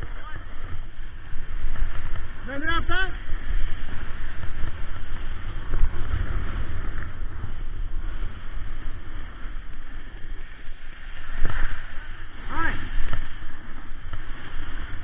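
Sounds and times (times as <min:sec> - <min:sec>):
snowboard scraping over snow: 0:00.0 - 0:15.0
wind buffeting microphone: 0:00.0 - 0:15.0.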